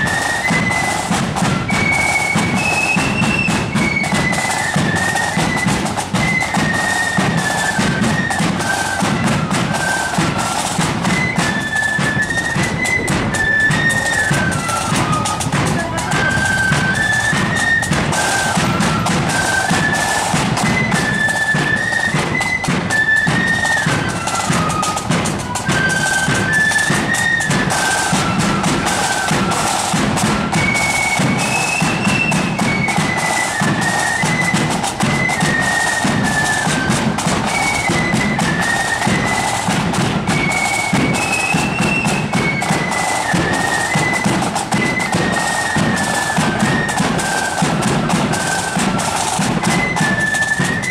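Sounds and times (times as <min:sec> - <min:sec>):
flutes playing march melody: 0:00.0 - 0:50.9
snare and bass drums: 0:00.0 - 0:50.9.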